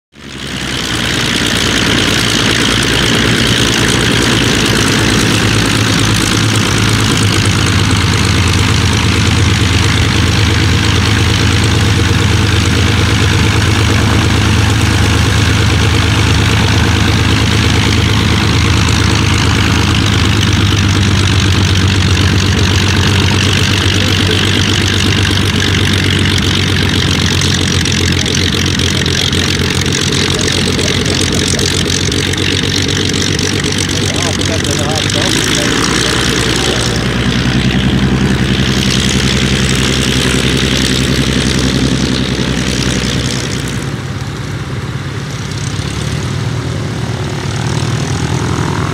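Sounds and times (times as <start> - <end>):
propeller engines droning: 0.1 - 48.9.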